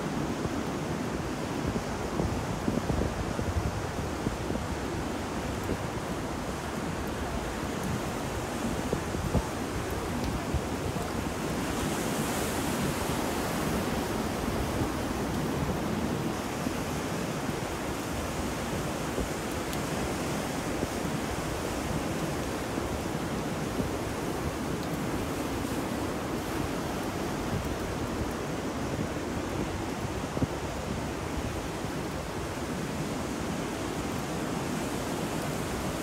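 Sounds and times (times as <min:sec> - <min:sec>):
ocean surf: 0:00.0 - 0:36.0
wind: 0:00.0 - 0:36.0.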